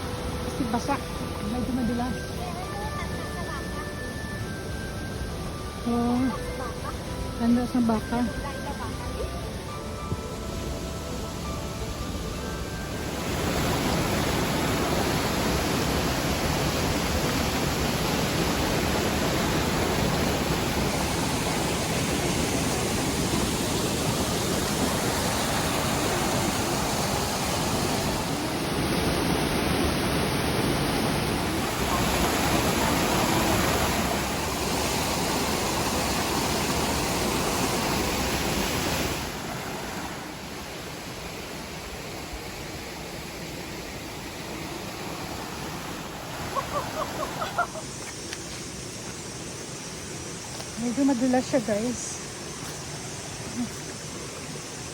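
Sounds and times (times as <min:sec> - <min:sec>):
mountain stream rushing over rocks: 0:00.0 - 0:03.9, 0:06.3 - 0:54.9.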